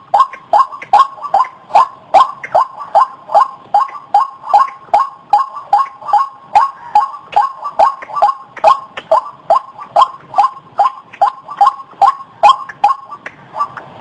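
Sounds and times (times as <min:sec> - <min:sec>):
waterhen calling: 0:00.0 - 0:13.9.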